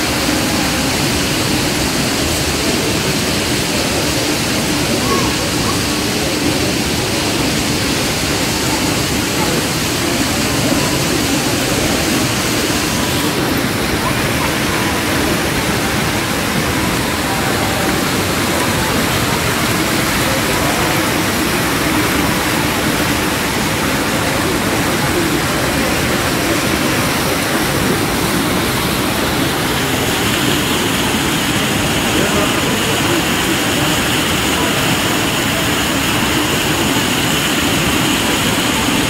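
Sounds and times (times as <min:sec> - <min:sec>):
fountain water jets splashing: 0:00.0 - 0:39.0
murmur of voices: 0:00.0 - 0:39.0.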